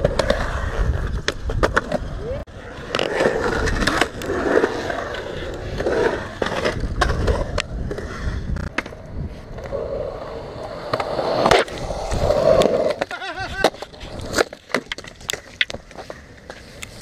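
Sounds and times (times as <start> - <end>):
skateboard clicks and knocks: 0.0 - 17.0
skateboard wheels rolling on concrete: 0.0 - 17.0.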